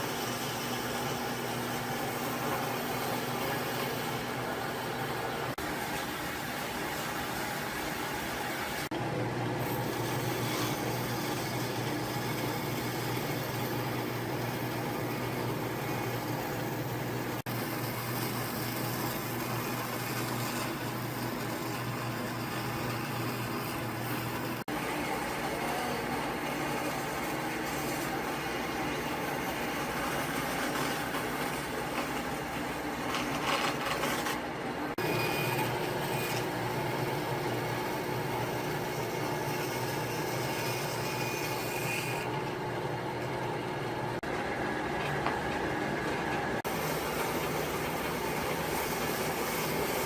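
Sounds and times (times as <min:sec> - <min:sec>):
machine noise with low hum: 0:00.0 - 0:50.0.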